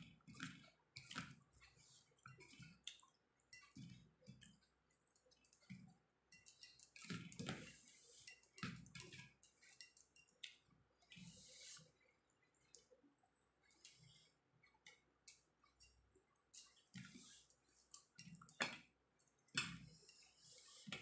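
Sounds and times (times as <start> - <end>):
chewing food: 0.0 - 21.0.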